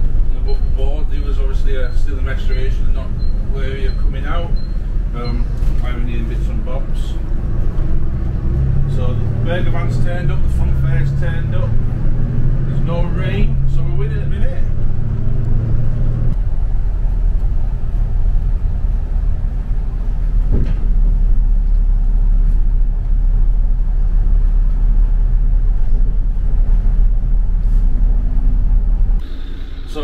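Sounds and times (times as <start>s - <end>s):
bus engine rumbling: 0.0s - 30.0s.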